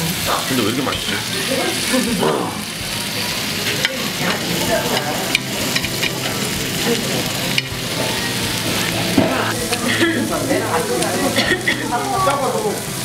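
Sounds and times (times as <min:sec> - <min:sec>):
food sizzling on a grill plate: 0:00.0 - 0:13.0.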